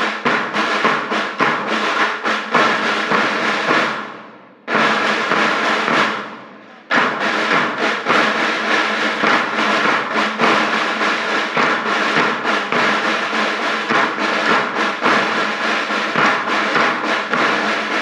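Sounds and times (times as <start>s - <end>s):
driving drum beat: 0.0s - 18.0s.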